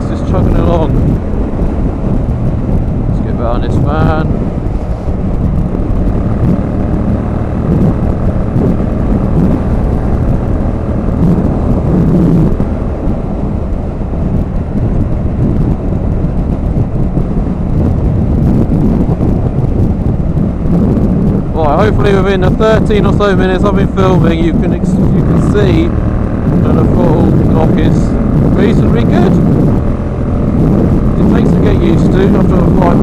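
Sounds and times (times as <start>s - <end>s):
motorcycle engine cruising: 0.0s - 33.0s
road noise: 0.0s - 33.0s
wind buffeting microphone: 0.0s - 33.0s.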